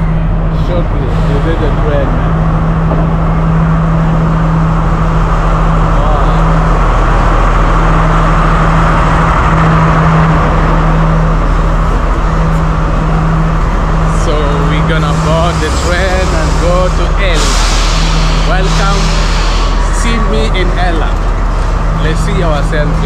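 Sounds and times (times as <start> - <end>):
diesel engine drone: 0.0 - 23.0
wheel and rail noise: 0.0 - 23.0.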